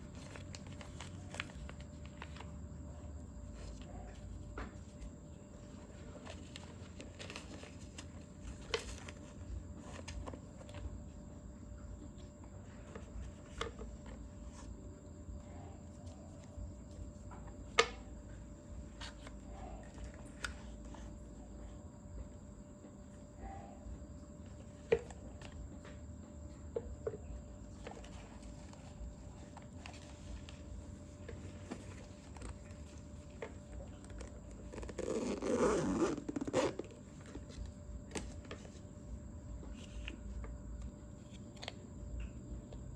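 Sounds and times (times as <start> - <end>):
rustle of handling: 0.0 - 26.0, 26.6 - 41.8
steady low hum: 0.0 - 42.9.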